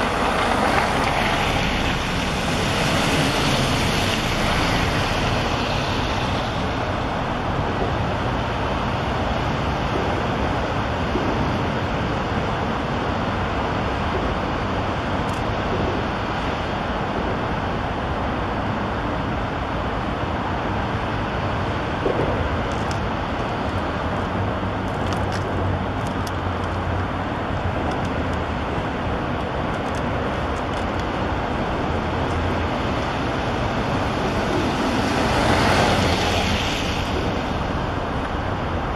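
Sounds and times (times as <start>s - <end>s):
highway traffic: 0.0s - 38.9s.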